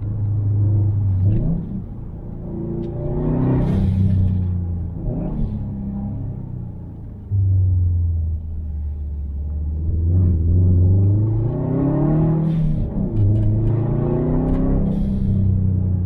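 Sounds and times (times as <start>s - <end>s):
car engine revving: 0.0s - 7.3s, 9.7s - 16.0s.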